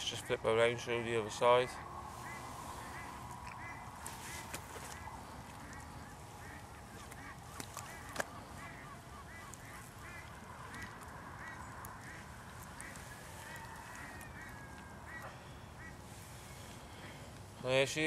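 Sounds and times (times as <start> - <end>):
geese honking: 0.0 - 17.3.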